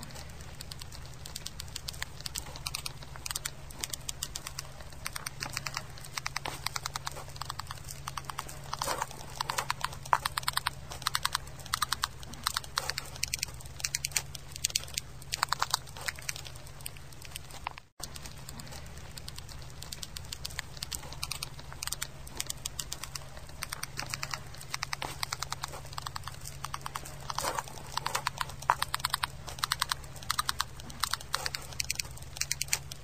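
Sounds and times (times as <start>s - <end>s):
steady low hum: 0.0s - 33.0s
termites clicking rapidly: 0.0s - 33.0s.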